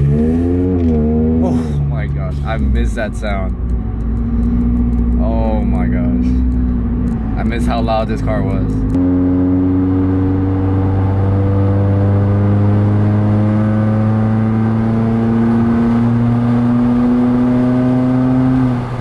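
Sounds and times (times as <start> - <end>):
car engine droning in cabin: 0.0 - 19.0.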